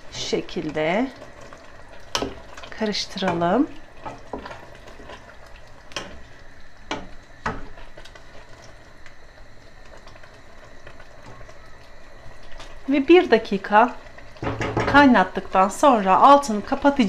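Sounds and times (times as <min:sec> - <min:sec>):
sauce boiling in a pot: 0:00.0 - 0:17.0.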